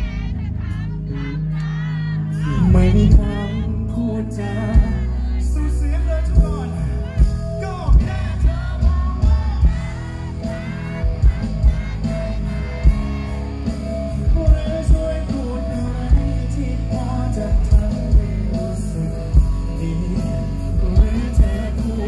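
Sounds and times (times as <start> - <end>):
man singing into a microphone: 0.0 - 22.0
music through stage speakers: 0.0 - 22.0.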